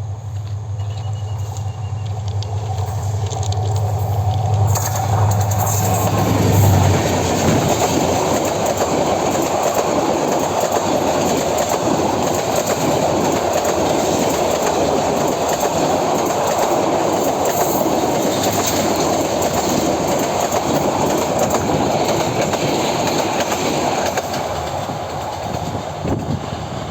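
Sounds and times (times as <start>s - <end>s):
locomotive humming: 0.0s - 26.9s
train wheels clattering: 0.0s - 26.9s.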